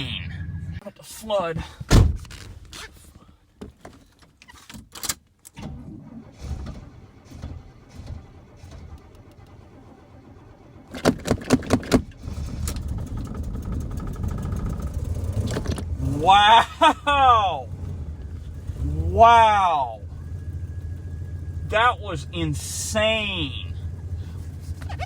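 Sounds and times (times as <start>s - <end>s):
car engine starting and rumbling: 0.0s - 2.7s, 5.4s - 25.0s.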